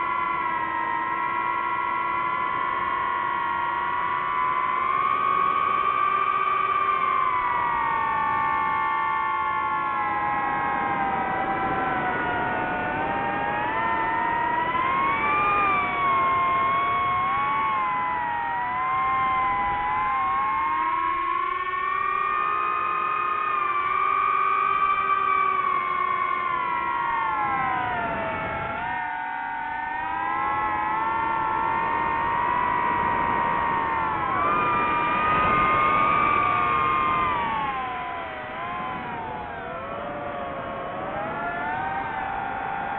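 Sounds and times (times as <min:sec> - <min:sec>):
drone motors whining: 0:00.0 - 0:42.9.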